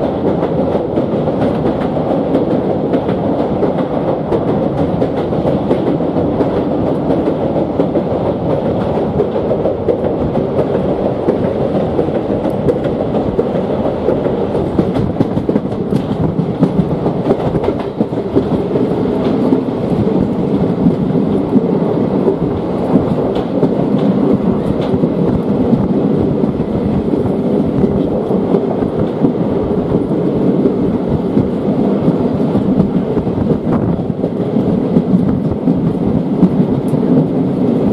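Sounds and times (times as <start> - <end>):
loud rumbling noise: 0.0 - 37.9.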